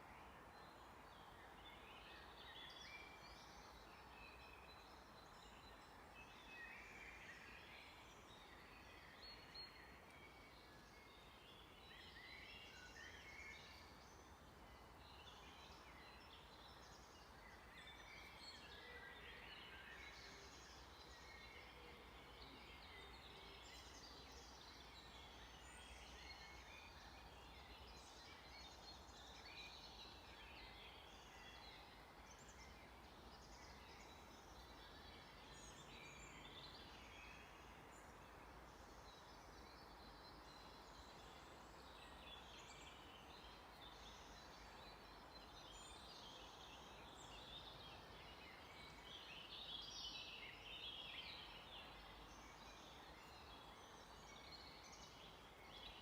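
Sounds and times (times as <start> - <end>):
forest birds singing: 0.0 - 56.0.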